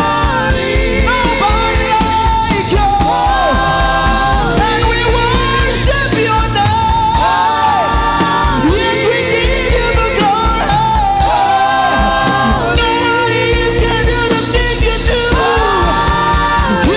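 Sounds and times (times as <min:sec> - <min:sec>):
band playing a steady beat: 0:00.0 - 0:16.9
voices singing long notes: 0:00.0 - 0:16.9.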